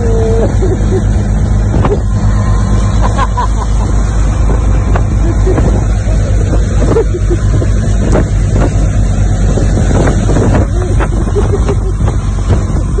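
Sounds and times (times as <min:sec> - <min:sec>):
motorboat engine running: 0:00.0 - 0:13.0
rush of boat wake: 0:00.0 - 0:13.0
wind buffeting microphone: 0:00.0 - 0:13.0.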